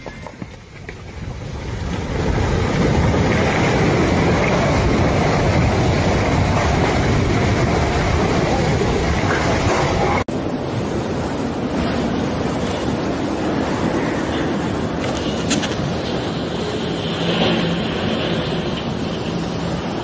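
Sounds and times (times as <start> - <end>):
avalanche rumble: 0.4 - 20.0.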